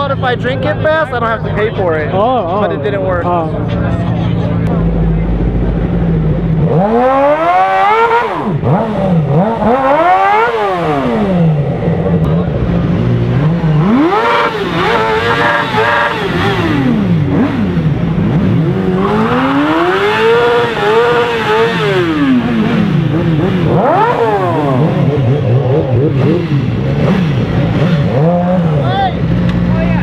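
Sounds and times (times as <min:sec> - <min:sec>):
vehicle engines revving: 0:00.0 - 0:30.0.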